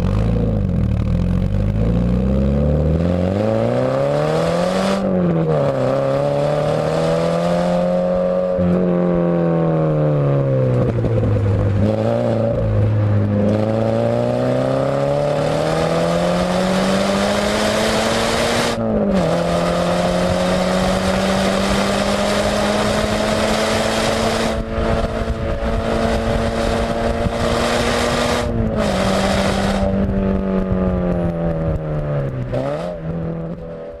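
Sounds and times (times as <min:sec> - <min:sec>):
car engine revving while driven: 0:00.0 - 0:34.0
gear changes: 0:00.0 - 0:34.0.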